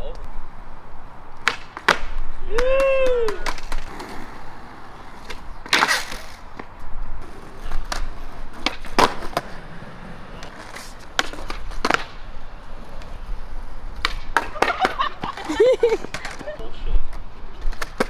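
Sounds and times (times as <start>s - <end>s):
skateboard wheels rolling on concrete: 0.0s - 18.0s
skateboards clacking: 1.3s - 18.0s.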